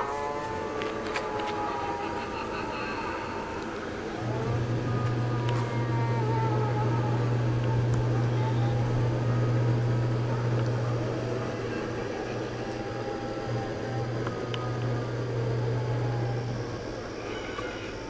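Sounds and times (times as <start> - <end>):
faint wavering tones: 0.0 - 18.0
low electric motor hum: 0.0 - 18.0.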